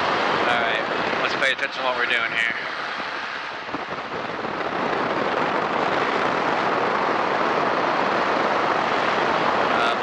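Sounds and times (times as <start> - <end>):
rushing wind: 0.0 - 10.0
ultralight aircraft engine: 0.0 - 10.0.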